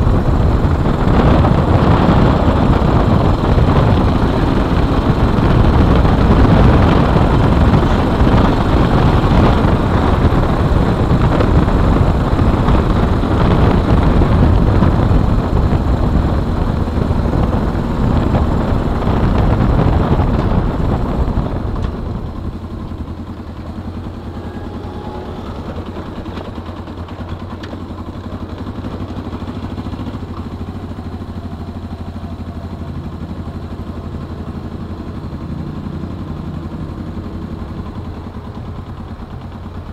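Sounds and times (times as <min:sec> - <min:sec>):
wind noise: 0:00.0 - 0:35.8
motorcycle engine running: 0:00.0 - 0:39.9.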